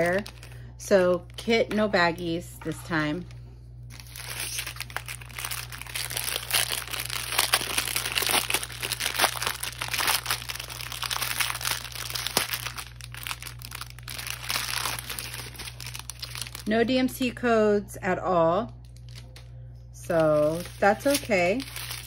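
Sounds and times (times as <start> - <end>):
plastic packaging crinkling: 0.0 - 17.0, 18.8 - 22.0.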